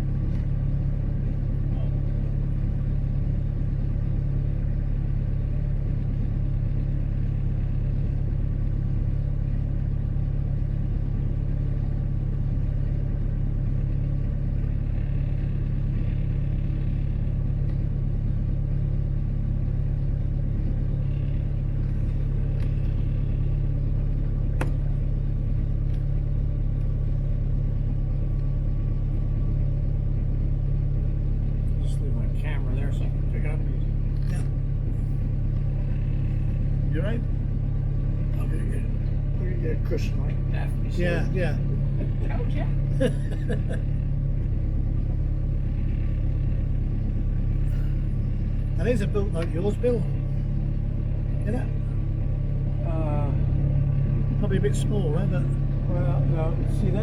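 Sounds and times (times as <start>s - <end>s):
motor boat engine droning: 0.0s - 57.0s.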